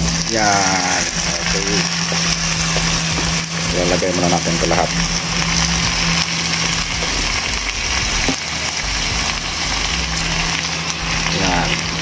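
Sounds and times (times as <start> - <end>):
food sizzling in oil: 0.0 - 12.0
gas burner hiss: 0.0 - 12.0
low hum: 0.0 - 12.0.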